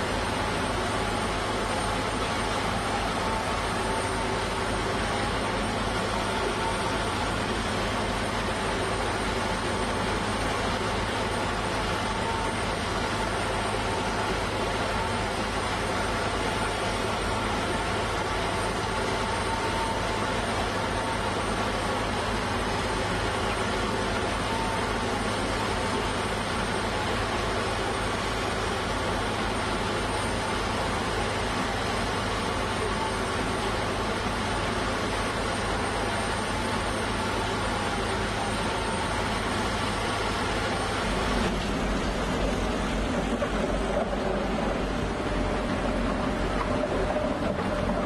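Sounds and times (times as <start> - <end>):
piling rig drilling: 0.0 - 48.0.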